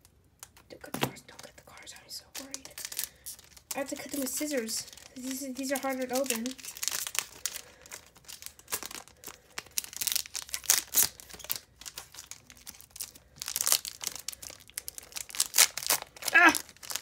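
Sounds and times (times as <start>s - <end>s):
foil wrapper crinkling: 1.3s - 17.0s
scissors cutting foil pack: 2.4s - 17.0s.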